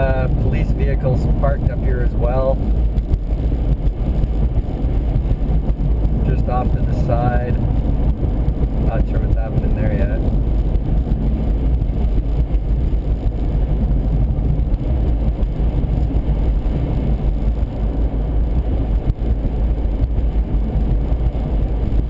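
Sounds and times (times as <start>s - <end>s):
road and wind noise inside car: 0.0s - 22.0s.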